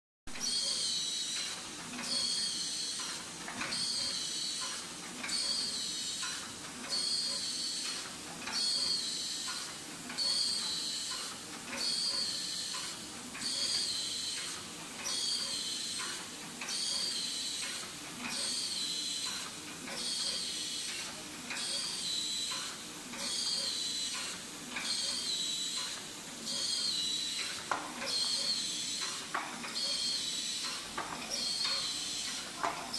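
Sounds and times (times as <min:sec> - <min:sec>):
packing machine hissing whine: 0:03.7 - 0:32.9.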